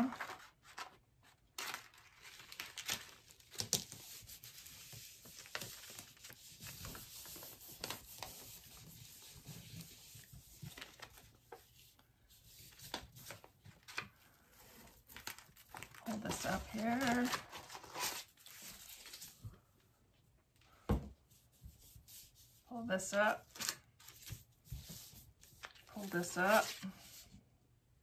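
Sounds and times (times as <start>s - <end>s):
paper rustling and crinkling: 0.0s - 19.7s, 23.3s - 27.4s.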